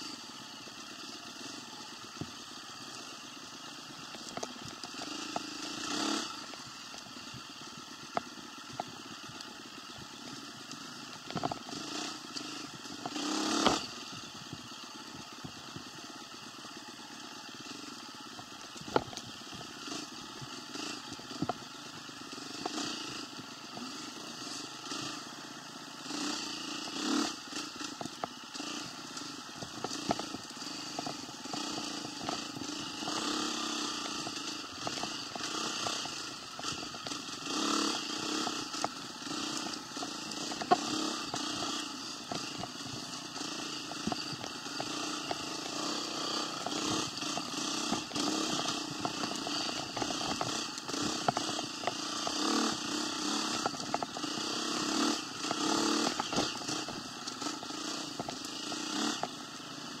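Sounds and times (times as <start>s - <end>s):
vehicle engine running: 0.0s - 60.0s.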